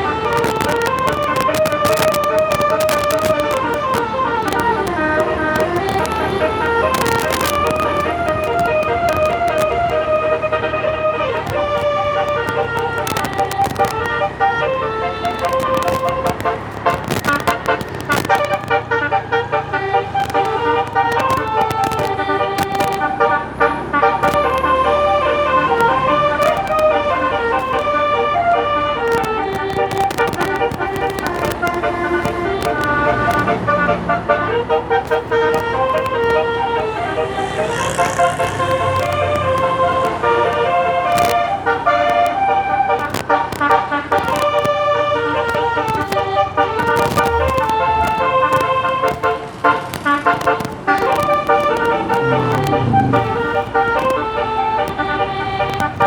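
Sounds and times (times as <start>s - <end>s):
sharp clicks: 0.0s - 23.3s, 24.0s - 56.0s
bus musical air horn: 3.2s - 13.0s, 14.0s - 15.4s, 18.7s - 20.9s, 21.5s - 29.5s, 31.8s - 56.0s.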